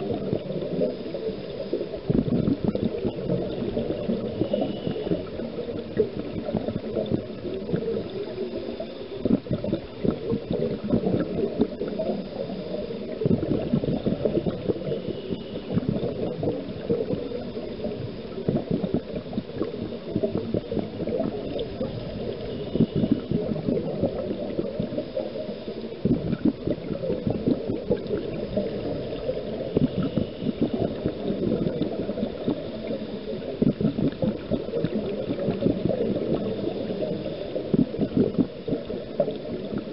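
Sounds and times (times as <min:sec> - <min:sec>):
bubbles gurgling underwater: 0:00.0 - 0:39.9.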